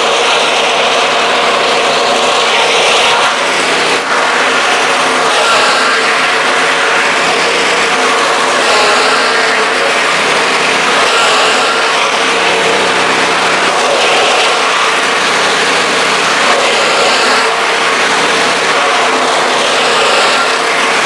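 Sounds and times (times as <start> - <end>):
grass chopper machine droning: 0.0 - 21.0.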